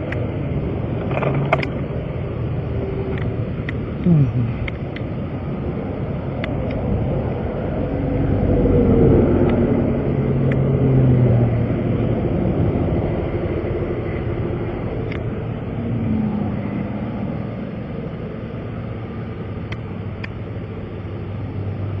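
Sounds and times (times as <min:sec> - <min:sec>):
highway traffic rumble: 0:00.0 - 0:22.0
vehicles passing close by: 0:00.0 - 0:22.0.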